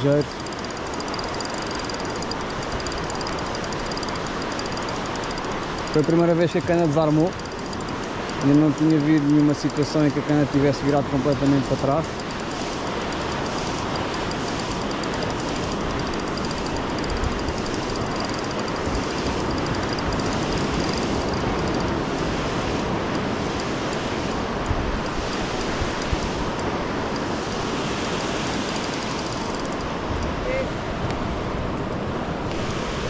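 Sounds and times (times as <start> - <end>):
surf rushing on beach: 0.0 - 33.0.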